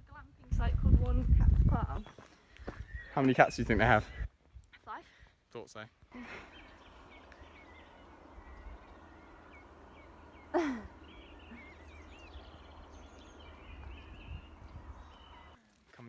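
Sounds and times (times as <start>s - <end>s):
small birds chirping: 0.5s - 5.2s, 5.8s - 15.7s.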